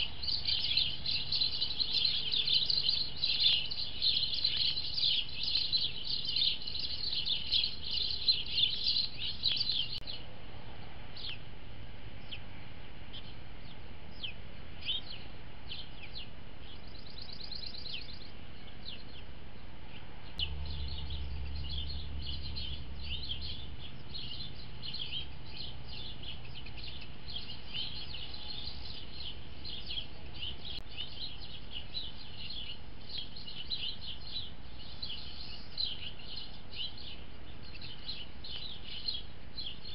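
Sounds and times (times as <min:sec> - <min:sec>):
small birds chirping: 0:00.0 - 0:11.5, 0:12.1 - 0:39.9
faint low hum: 0:00.0 - 0:39.9.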